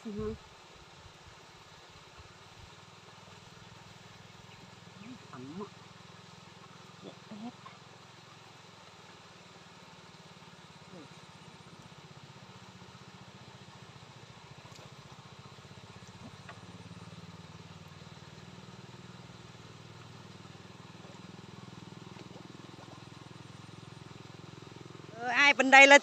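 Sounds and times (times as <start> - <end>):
low engine hum: 0.0 - 25.7.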